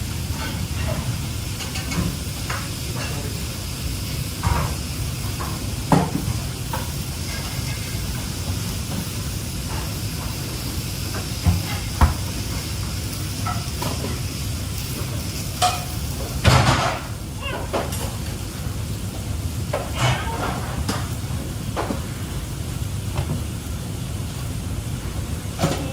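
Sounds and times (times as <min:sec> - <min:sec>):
food frying in a pan: 0:00.0 - 0:25.9.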